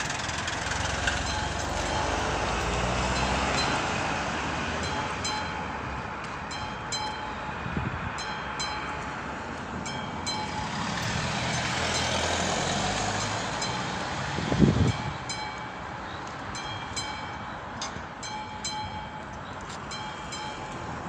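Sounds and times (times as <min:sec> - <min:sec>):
level-crossing warning bell: 0:00.0 - 0:07.6, 0:08.2 - 0:12.4, 0:13.1 - 0:14.0, 0:14.8 - 0:21.0
passing train rumble: 0:00.0 - 0:21.0.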